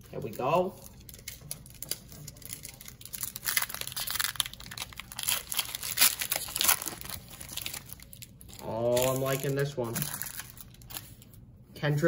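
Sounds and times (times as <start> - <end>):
plastic wrapper crinkling and tearing: 0.1 - 11.4.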